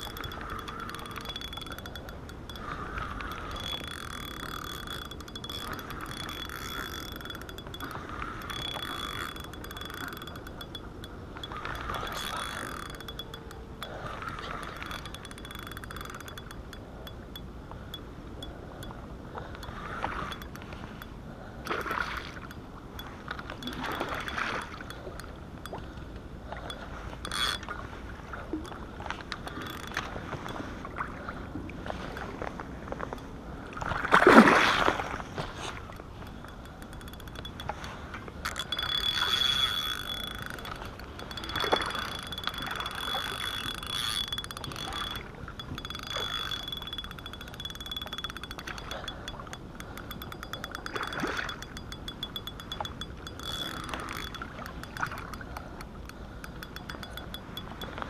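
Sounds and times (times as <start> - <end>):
spinning reel winding: 0.0 - 21.1, 21.7 - 25.8, 26.6 - 27.7, 28.6 - 30.6, 36.0 - 58.0.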